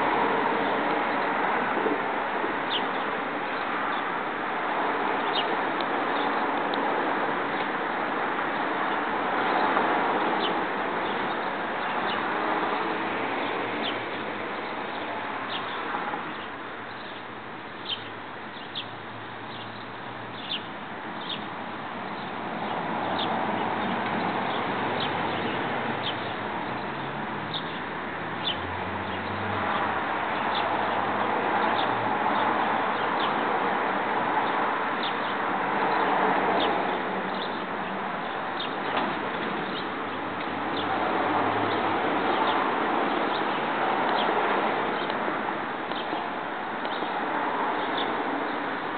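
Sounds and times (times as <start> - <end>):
small birds chirping: 0.0 - 4.2, 4.9 - 7.8, 8.4 - 48.9.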